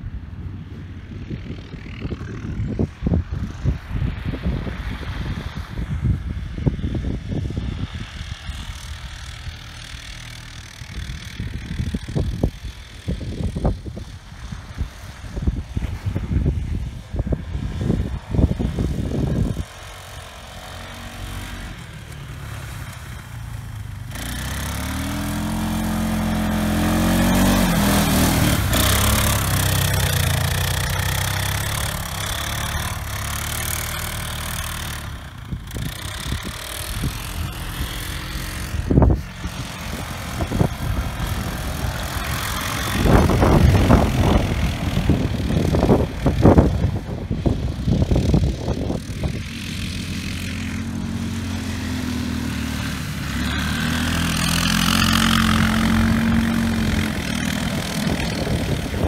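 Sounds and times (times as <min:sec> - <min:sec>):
atv engines revving: 0:00.0 - 0:59.0.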